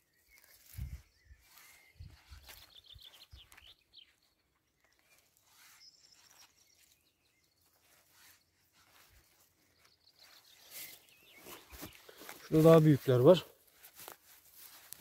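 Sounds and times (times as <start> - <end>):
grass rustling: 0.2 - 15.0.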